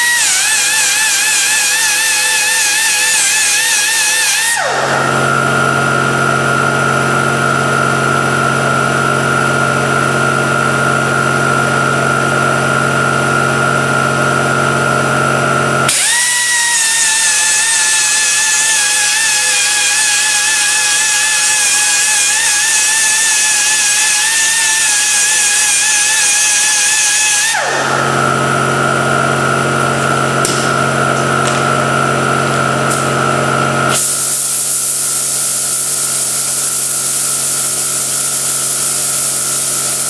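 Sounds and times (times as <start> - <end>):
power tool whining: 0.0 - 40.0.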